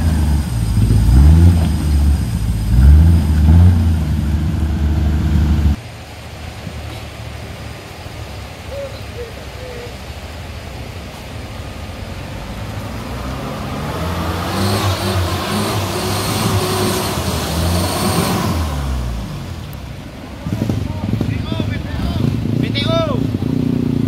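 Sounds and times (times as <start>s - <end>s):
off-road vehicle engine revving: 0.0s - 5.8s, 6.8s - 24.0s.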